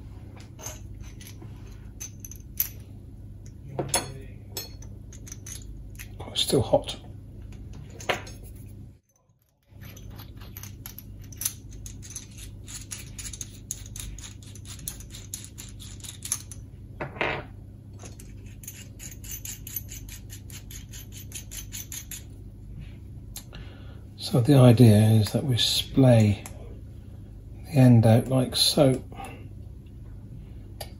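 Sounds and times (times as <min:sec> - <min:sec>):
low steady hum: 0:00.0 - 0:30.9.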